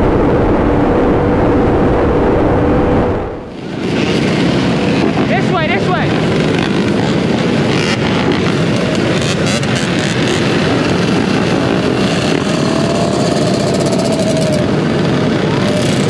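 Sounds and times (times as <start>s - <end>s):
many dirt bike engines running: 0.0s - 16.0s.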